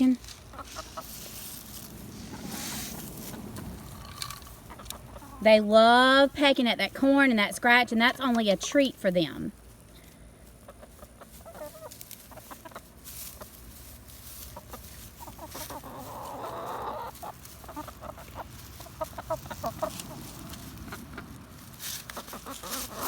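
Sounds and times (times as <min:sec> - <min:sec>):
hens clucking: 0:00.0 - 0:08.7, 0:09.6 - 0:23.0.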